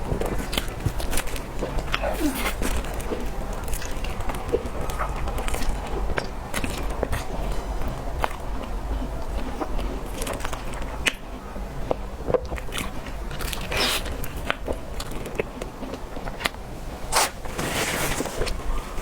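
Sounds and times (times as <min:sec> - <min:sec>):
cake being bitten and chewed: 0:00.0 - 0:19.0.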